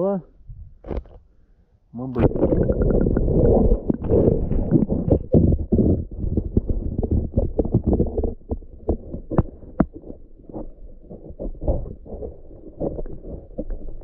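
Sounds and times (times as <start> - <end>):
muffled underwater knocking: 2.2 - 14.0
water bubbling: 2.2 - 14.0.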